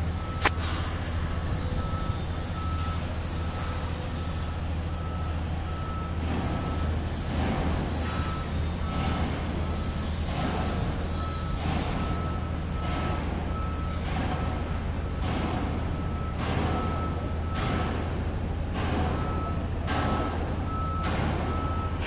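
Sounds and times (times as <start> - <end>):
heavy diesel machinery humming: 0.0 - 22.0
reversing alarm beeping: 0.0 - 22.0.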